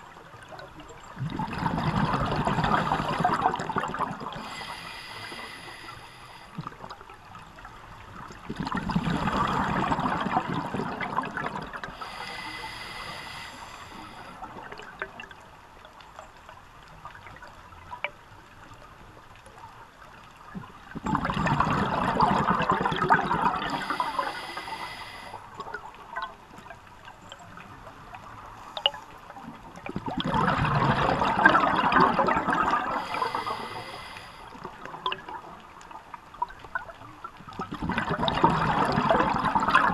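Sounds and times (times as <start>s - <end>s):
exhaled bubbles underwater: 0.0s - 15.5s, 20.3s - 39.9s.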